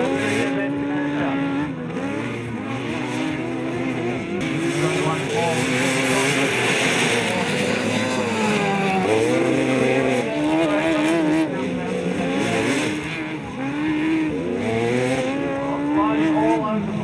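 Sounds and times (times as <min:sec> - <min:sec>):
lawnmower engines revving: 0:00.0 - 0:17.0.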